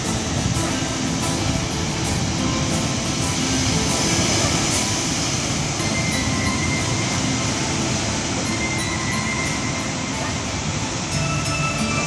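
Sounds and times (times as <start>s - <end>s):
surf crashing on rocks: 0.0s - 12.0s.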